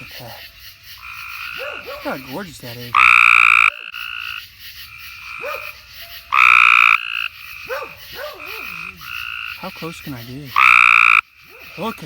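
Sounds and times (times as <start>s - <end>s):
quieter tree frogs trilling: 0.0s - 12.0s
tree frog harsh trilled call: 0.0s - 12.0s.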